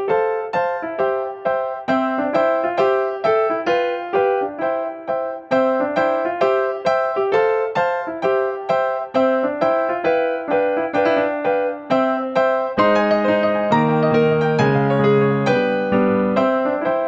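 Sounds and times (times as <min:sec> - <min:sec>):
keyboard tune: 0:00.0 - 0:17.0.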